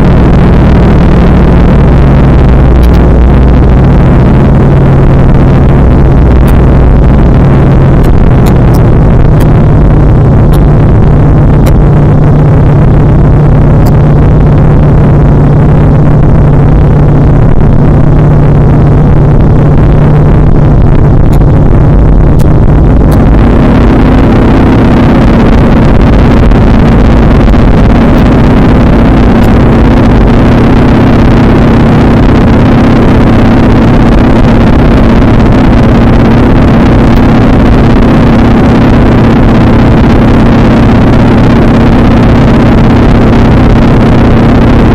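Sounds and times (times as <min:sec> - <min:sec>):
light aircraft engine drone: 0:00.0 - 0:44.9.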